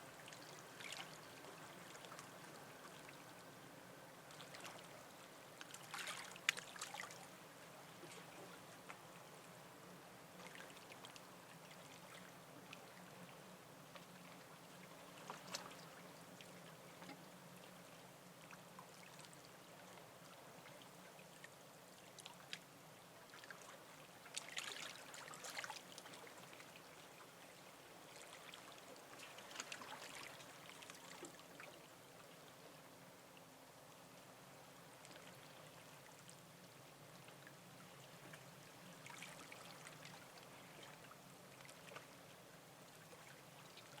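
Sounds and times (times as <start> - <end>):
low steady hum: 0.0 - 44.0
small waves lapping: 0.0 - 44.0.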